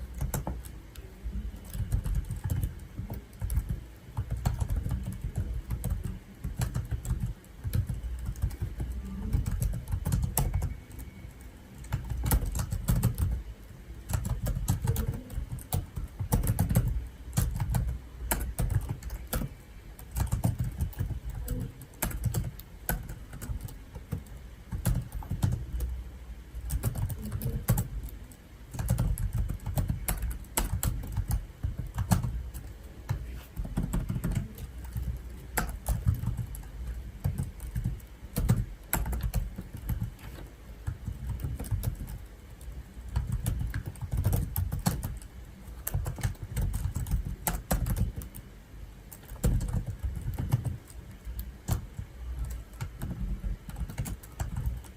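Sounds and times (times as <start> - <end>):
keyboard typing: 0.0 - 26.0, 26.6 - 54.9.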